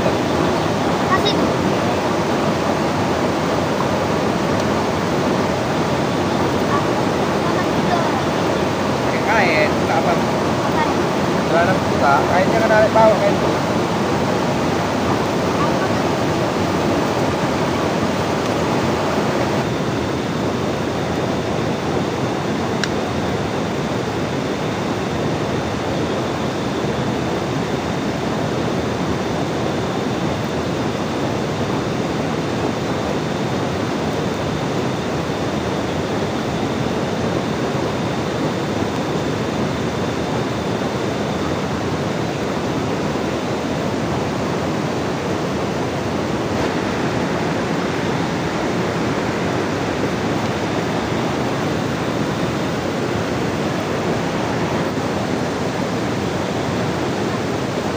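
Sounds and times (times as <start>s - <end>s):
loud rushing water: 0.0s - 57.9s.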